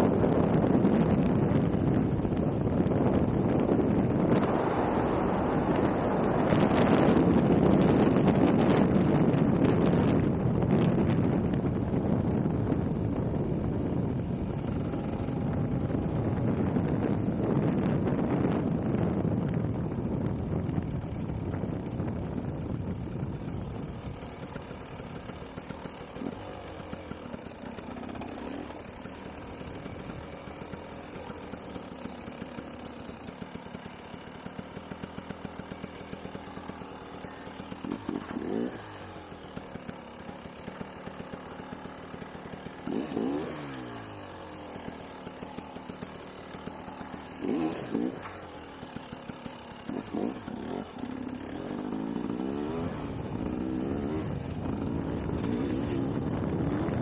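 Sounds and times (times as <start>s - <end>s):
dirt bike engine revving: 0.0s - 13.0s, 14.2s - 57.0s.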